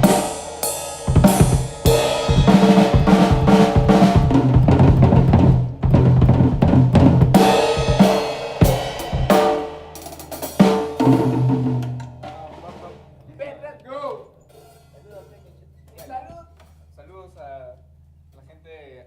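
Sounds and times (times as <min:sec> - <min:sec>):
drum kit hits: 0:00.0 - 0:16.4.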